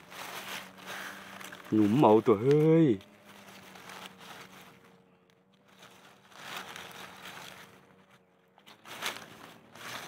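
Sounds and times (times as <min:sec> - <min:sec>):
rustling of dry leaves and grass: 0:00.0 - 0:10.0.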